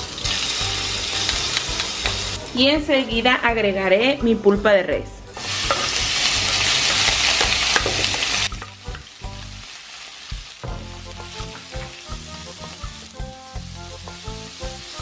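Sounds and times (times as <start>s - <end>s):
meat sizzling in oil: 0.0s - 2.4s, 5.3s - 15.0s.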